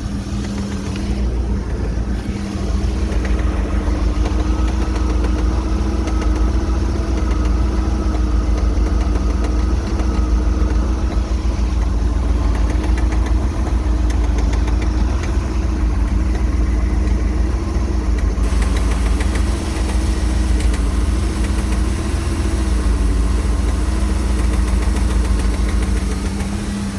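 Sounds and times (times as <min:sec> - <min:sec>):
boat engine idling with knock: 0:00.0 - 0:26.9.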